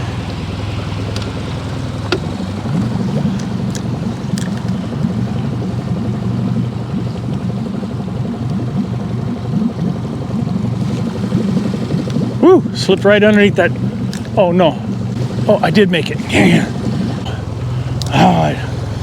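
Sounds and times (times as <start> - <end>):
boat motor droning: 0.0 - 19.0
water noise: 0.0 - 19.0.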